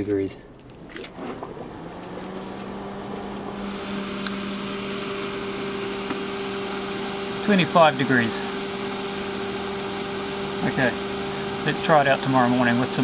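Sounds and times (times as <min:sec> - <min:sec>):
air cooler fan and pump humming: 0:00.0 - 0:13.0.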